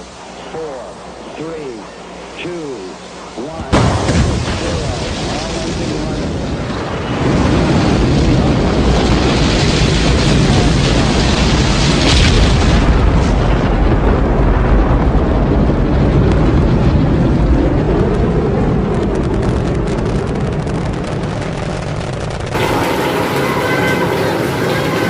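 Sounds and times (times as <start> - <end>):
rocket launch roar: 3.6 - 25.0.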